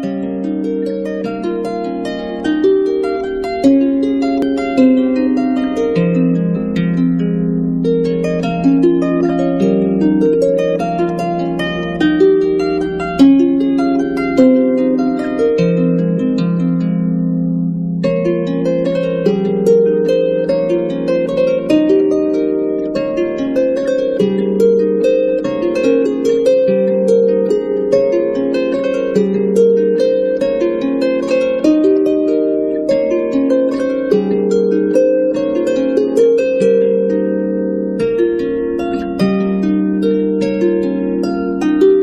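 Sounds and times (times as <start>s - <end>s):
harp-like plucked-string melody: 0.0s - 42.0s.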